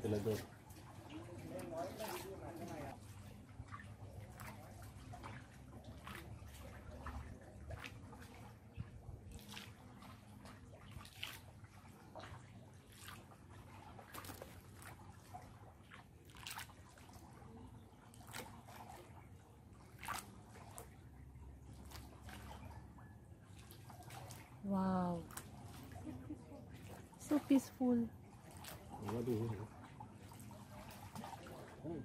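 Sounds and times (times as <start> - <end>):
water splashes and drips: 0.0 - 32.0
water trickling and sloshing: 0.0 - 32.0.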